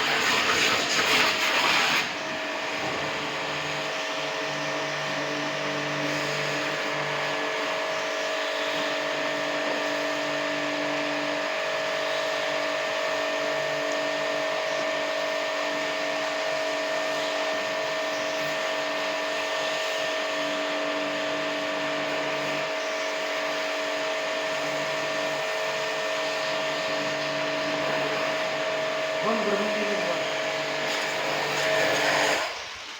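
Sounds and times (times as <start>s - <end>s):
pressure washer pump whining: 0.0s - 32.9s.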